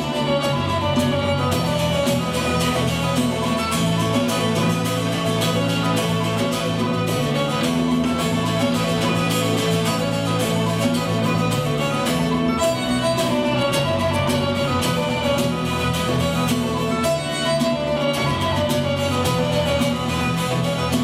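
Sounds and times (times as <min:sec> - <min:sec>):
folk fiddle and guitar music: 0:00.0 - 0:21.0.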